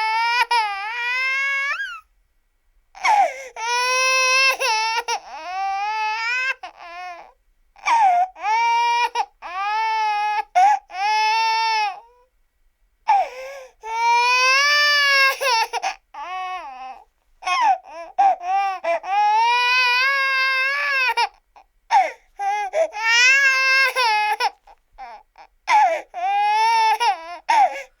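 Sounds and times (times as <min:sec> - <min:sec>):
baby crying: 0:00.0 - 0:02.1, 0:03.0 - 0:12.3, 0:13.1 - 0:28.0.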